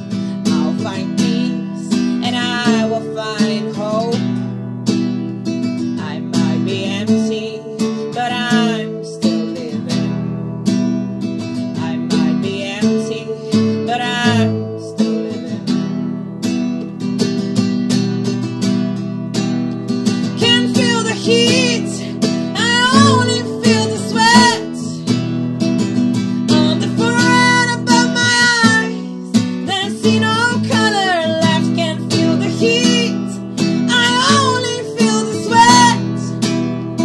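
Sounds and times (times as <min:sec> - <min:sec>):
strummed guitar chords: 0:00.0 - 0:37.0.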